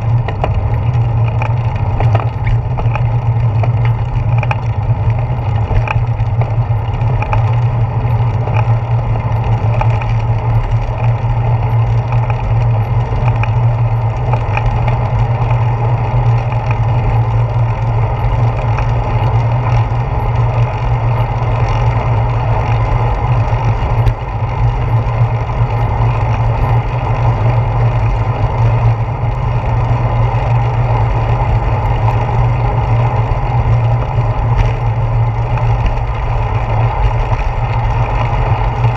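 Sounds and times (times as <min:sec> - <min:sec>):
bicycle road vibration rumble: 0:00.0 - 0:38.9.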